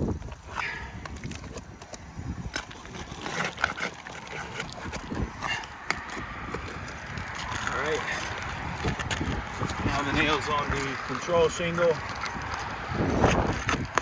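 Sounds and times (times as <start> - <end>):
scraping on roof shingles: 0.3 - 14.0.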